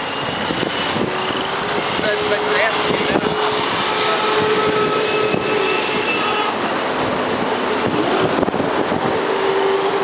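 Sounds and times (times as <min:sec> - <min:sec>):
road traffic and engine noise: 0:00.0 - 0:10.0
wind buffeting microphone: 0:00.0 - 0:10.0.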